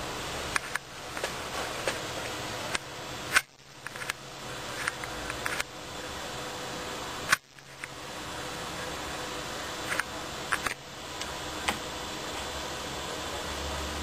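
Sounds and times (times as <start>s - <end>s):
camcorder hiss: 0.0s - 14.0s.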